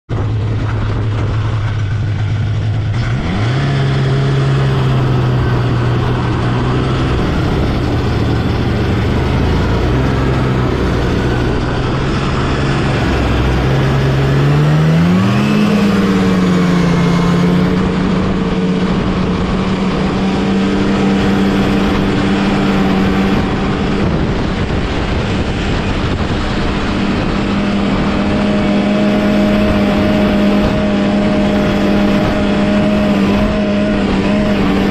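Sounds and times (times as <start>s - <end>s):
snowmobile engine running: 0.1s - 34.9s
steady rush of noise: 0.1s - 34.9s.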